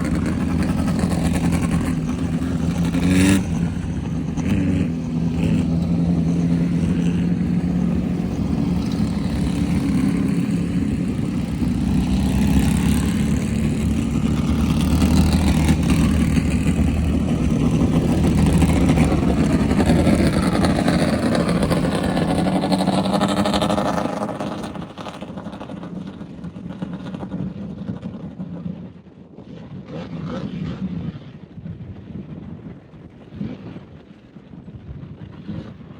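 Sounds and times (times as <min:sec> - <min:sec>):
off-road vehicle engine running hard: 0:00.0 - 0:29.0.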